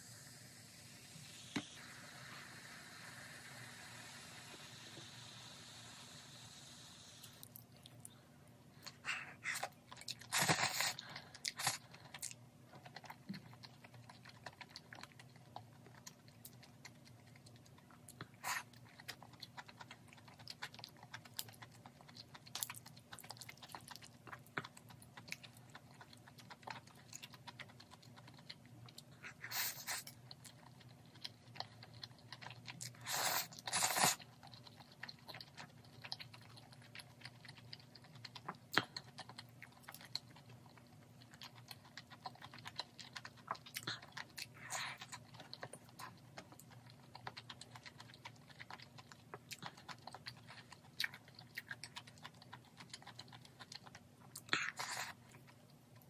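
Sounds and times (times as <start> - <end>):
chewing chewy food: 7.2 - 56.0.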